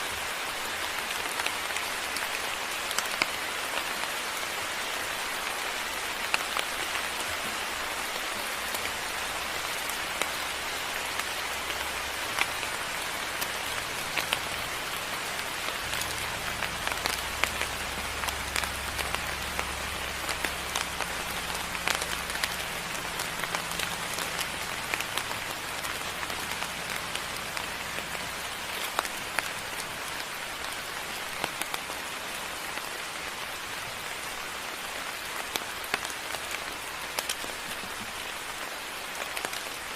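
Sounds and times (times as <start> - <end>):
rain falling: 0.0 - 39.9
raindrops ticking on surfaces: 0.0 - 39.9.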